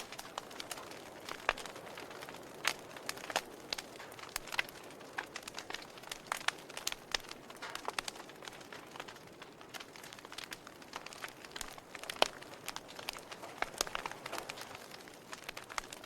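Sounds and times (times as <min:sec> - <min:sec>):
soft fire hiss: 0:00.0 - 0:16.0
wood fire crackling and popping: 0:00.0 - 0:16.0.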